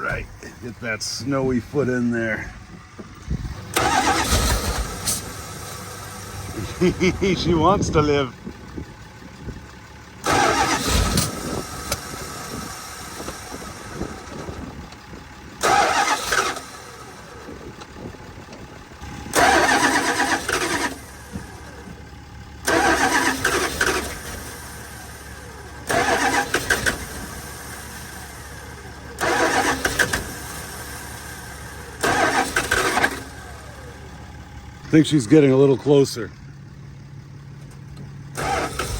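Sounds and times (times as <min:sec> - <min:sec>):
truck engine struggling to start: 0:00.0 - 0:38.9.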